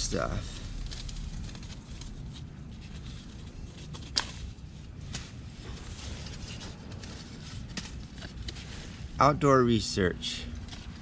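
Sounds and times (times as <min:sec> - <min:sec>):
low steady rumble: 0:00.0 - 0:11.0
rustling of fabric and paper tags: 0:00.0 - 0:11.0.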